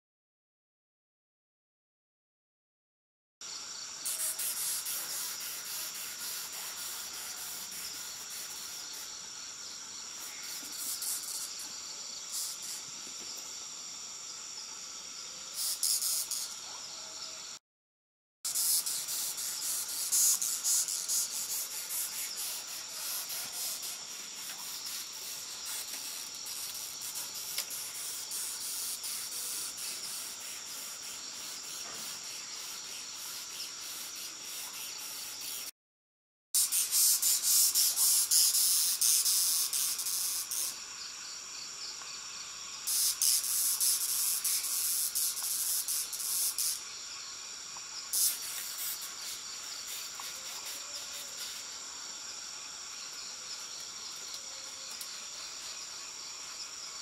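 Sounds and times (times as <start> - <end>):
crickets trilling: 3.4 - 17.6, 18.5 - 35.7, 36.6 - 57.0.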